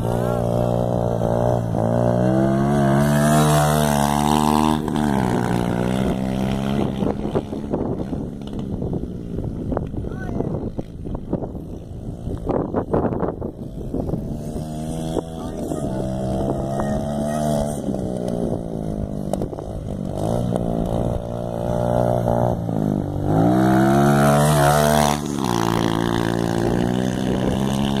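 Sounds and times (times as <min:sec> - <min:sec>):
dirt bike engine revving: 0:00.0 - 0:09.7, 0:11.6 - 0:28.0.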